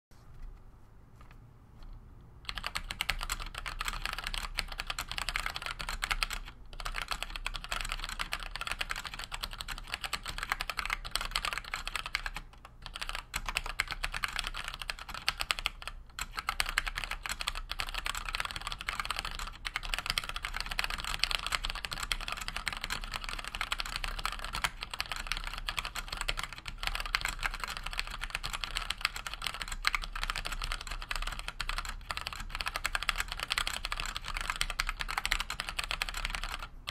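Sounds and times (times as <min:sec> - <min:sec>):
mechanical keyboard typing: 0:02.4 - 0:36.9.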